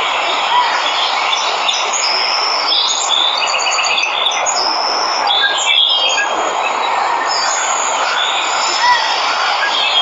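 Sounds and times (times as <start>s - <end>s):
birds chirping and trilling: 0.4s - 10.0s.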